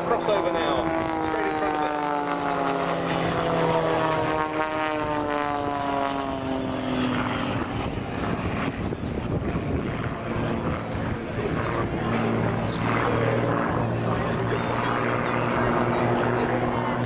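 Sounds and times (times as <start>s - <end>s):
propeller aircraft flying past: 0.0s - 17.0s.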